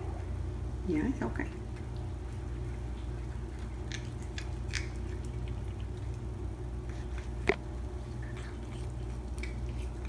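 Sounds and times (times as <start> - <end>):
low hum: 0.0 - 10.0
kitten chewing grass: 1.6 - 10.0.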